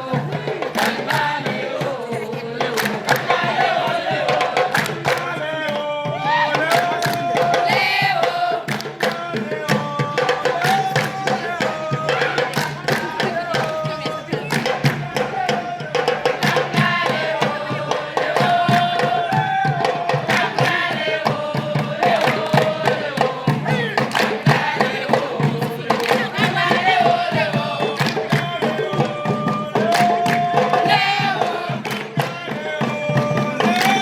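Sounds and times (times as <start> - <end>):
voices singing: 0.0 - 34.0.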